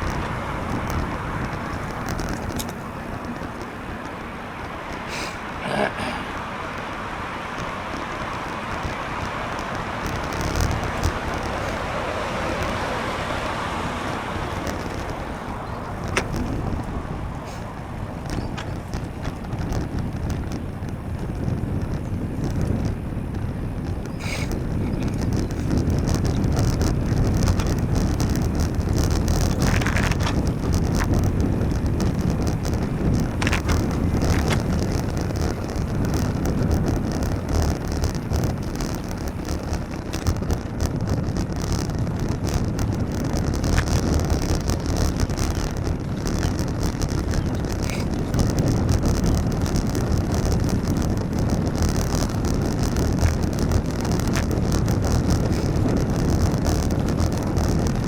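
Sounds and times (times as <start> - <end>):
road and traffic noise: 0.0 - 58.0
wind buffeting microphone: 0.0 - 58.0.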